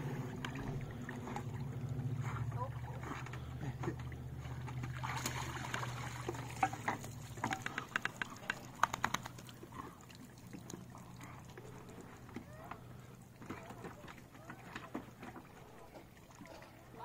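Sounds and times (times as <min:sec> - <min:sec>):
low steady hum: 0:00.0 - 0:17.0
sharp splashes and clicks: 0:00.2 - 0:17.0
water dripping off a dog: 0:00.4 - 0:17.0.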